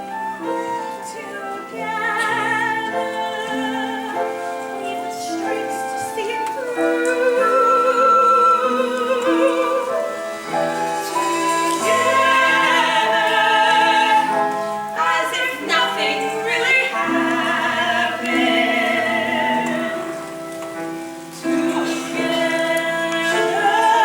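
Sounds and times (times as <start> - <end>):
musical accompaniment: 0.0 - 24.0
cast singing musical number: 0.4 - 24.0.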